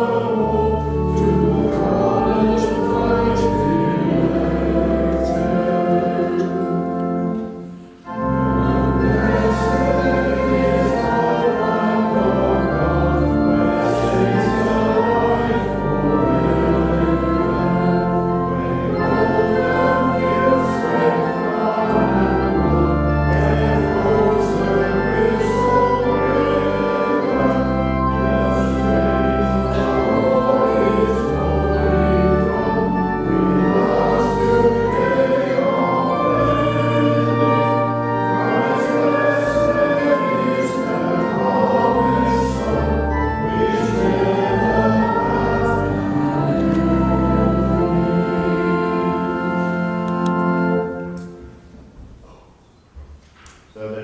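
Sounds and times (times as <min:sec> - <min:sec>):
congregation singing a hymn: 0:00.0 - 0:52.8
church organ bass notes: 0:00.0 - 0:53.1.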